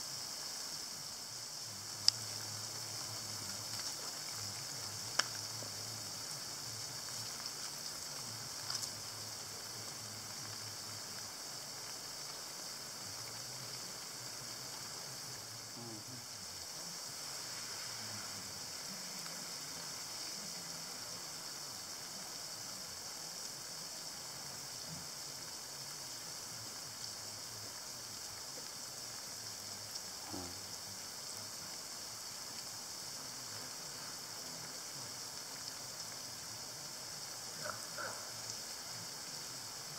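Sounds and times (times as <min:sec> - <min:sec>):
lawn sprinkler spraying water: 0:00.0 - 0:39.9.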